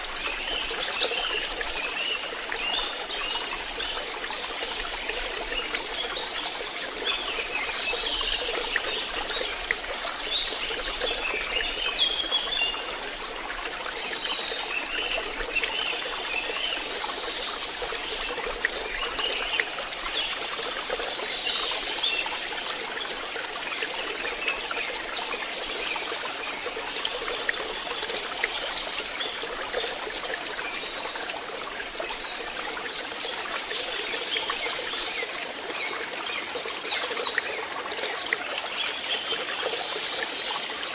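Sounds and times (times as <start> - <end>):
water trickling into a pond: 0.0 - 40.9.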